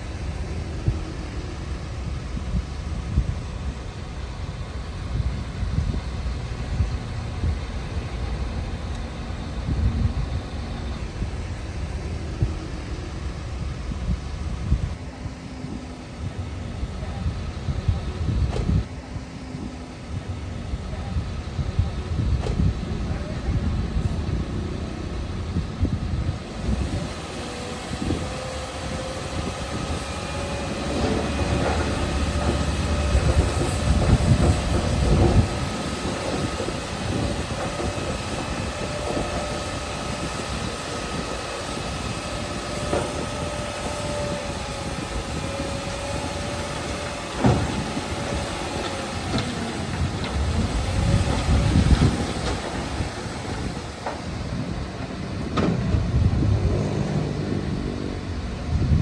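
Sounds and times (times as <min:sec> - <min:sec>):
bulldozer engine whining: 0:00.0 - 0:59.0.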